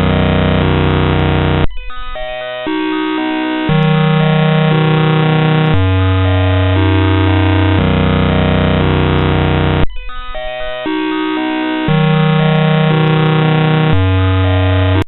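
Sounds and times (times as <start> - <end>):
harsh distorted electronic tune: 0.0 - 15.0.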